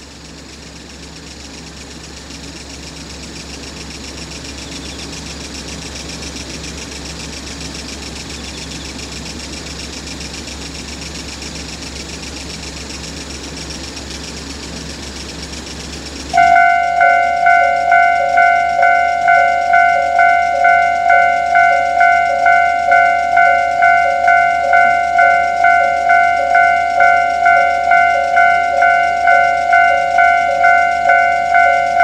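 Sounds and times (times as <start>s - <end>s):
diesel railcar engines idling: 2.2s - 32.0s.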